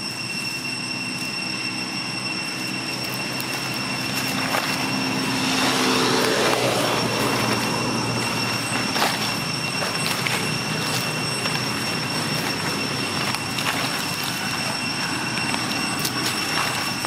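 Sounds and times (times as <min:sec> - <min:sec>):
high-pitched whine: 0:00.0 - 0:17.0
vehicle engine hum: 0:00.0 - 0:17.0.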